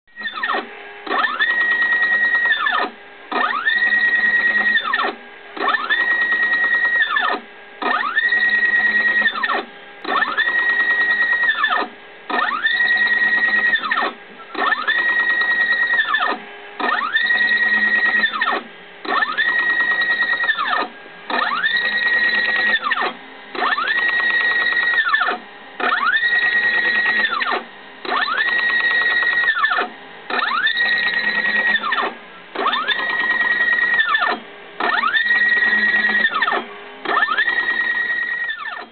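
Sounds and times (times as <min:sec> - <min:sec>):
cnc motor whining: 0:00.1 - 0:38.9.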